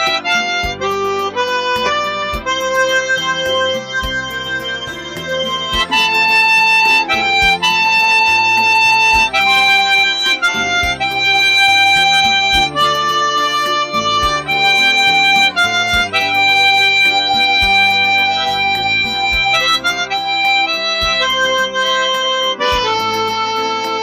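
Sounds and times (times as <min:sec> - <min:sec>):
backing accompaniment with bass: 0:00.0 - 0:24.0
harmonica slow melody: 0:00.0 - 0:24.0.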